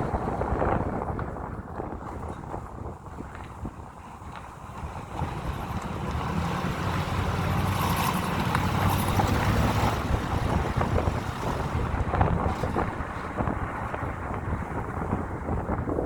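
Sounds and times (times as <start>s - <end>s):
road noise: 0.0s - 16.0s
truck engine running: 0.0s - 16.0s.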